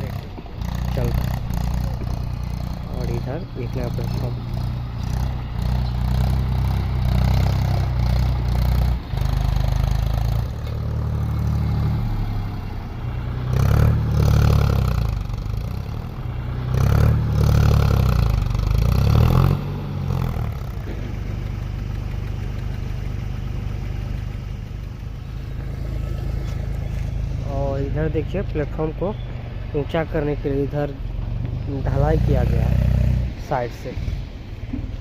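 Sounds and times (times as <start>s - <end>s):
tractor engine revving: 0.0s - 35.0s.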